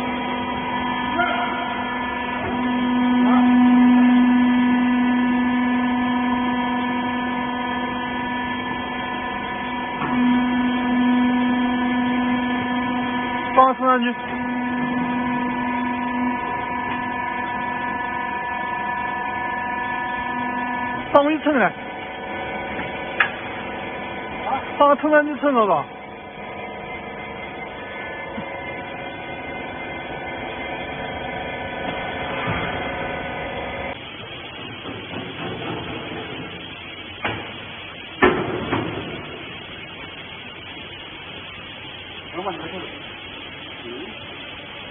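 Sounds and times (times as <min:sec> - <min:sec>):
electric pump motor humming: 0:00.0 - 0:44.9.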